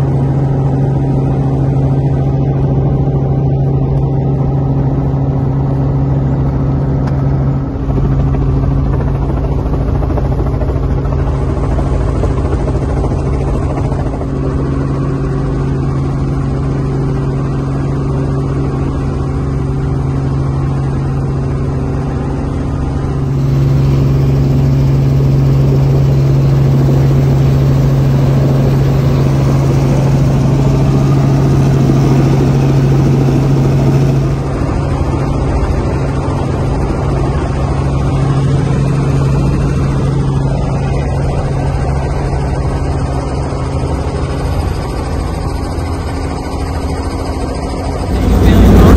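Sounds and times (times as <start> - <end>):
helicopter engine and rotor: 0.0 - 48.9.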